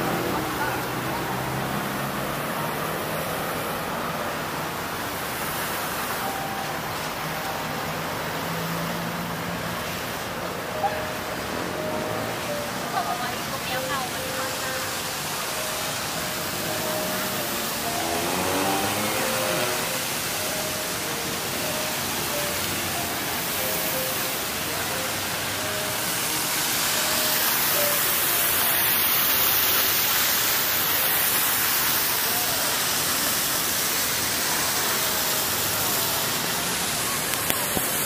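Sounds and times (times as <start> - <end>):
faint music notes: 0.0 - 38.0
fountain water splashing: 0.0 - 38.0.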